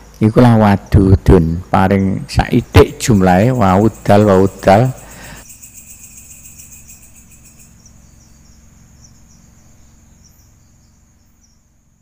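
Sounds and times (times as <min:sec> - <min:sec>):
faint low hum: 0:00.0 - 0:12.0
insects trilling: 0:00.0 - 0:12.0.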